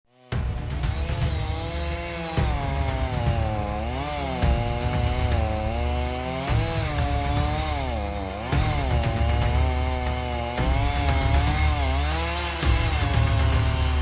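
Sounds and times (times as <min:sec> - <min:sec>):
chainsaw cutting wood: 0:00.1 - 0:14.0.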